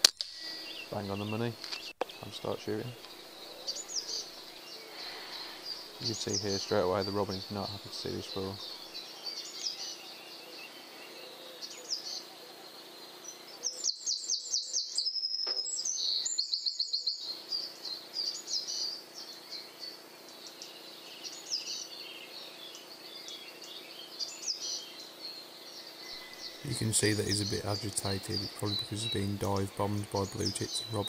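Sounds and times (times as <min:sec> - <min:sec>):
birds scolding fast repeated notes: 0:00.0 - 0:31.0
songbirds chirping: 0:00.0 - 0:31.0.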